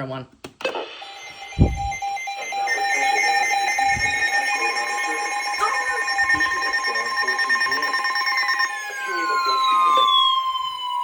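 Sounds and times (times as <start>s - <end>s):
steady electronic alarm tones: 0.6s - 11.0s
rapid beeping: 0.7s - 11.0s
falling siren-like sweep: 1.0s - 11.0s.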